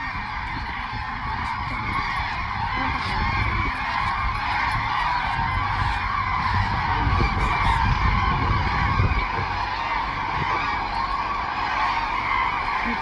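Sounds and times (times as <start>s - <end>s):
cranes trumpeting calls: 0.0s - 13.0s.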